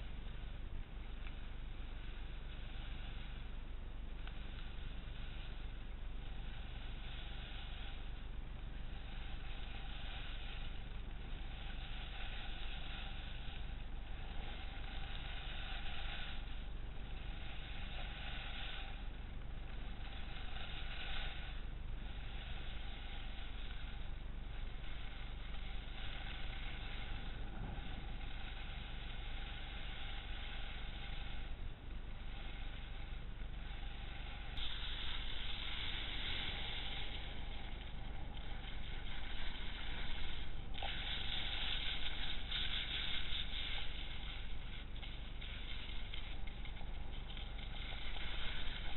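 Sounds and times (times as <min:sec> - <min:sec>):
low rumble: 0:00.0 - 0:48.9
skis sliding on snow: 0:08.8 - 0:31.5, 0:32.2 - 0:48.9.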